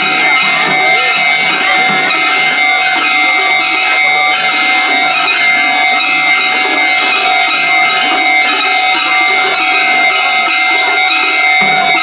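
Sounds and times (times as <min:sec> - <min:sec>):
level crossing bell clanging: 0:00.0 - 0:12.0.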